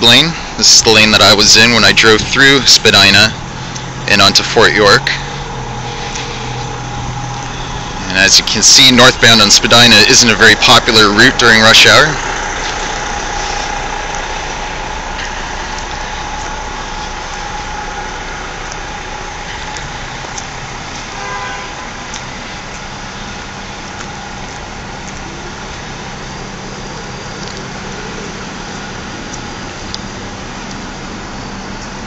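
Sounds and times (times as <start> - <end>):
cars idling in traffic: 0.0 - 32.0.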